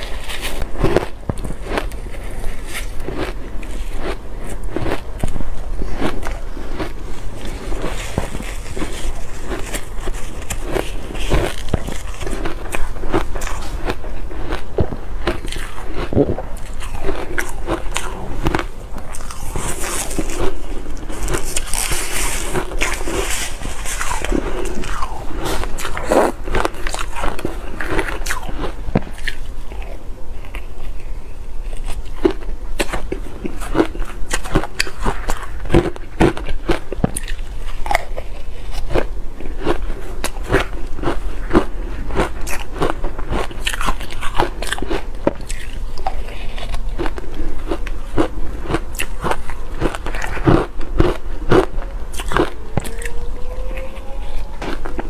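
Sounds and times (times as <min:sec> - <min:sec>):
ice crunching in mouth: 0:00.0 - 0:31.1, 0:31.7 - 0:55.0.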